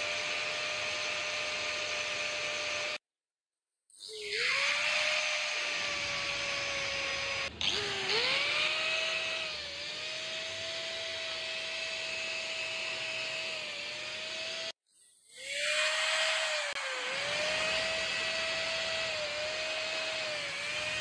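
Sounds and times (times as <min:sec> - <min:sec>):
angle grinder whining: 0:00.0 - 0:03.0, 0:03.9 - 0:21.0.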